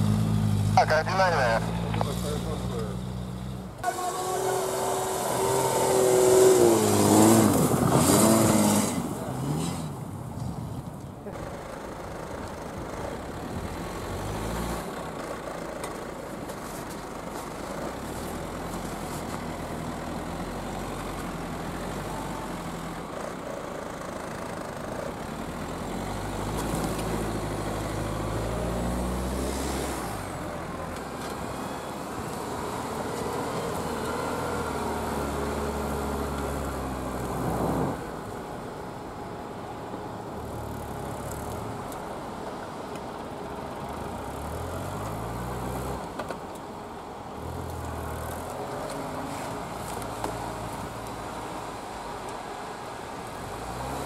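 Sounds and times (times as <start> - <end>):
van engine revving: 0.0 - 10.3, 11.3 - 52.1.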